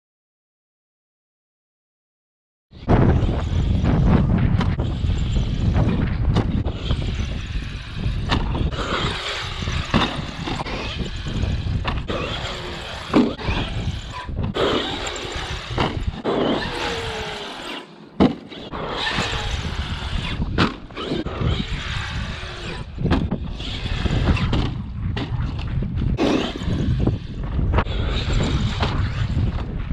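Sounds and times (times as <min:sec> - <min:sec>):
wind noise on microphone: 0:02.7 - 0:17.5, 0:18.6 - 0:29.9
electric motor whining: 0:02.8 - 0:24.9, 0:25.5 - 0:29.7
sharp thumps: 0:02.9 - 0:07.5, 0:08.1 - 0:17.0, 0:18.1 - 0:29.9.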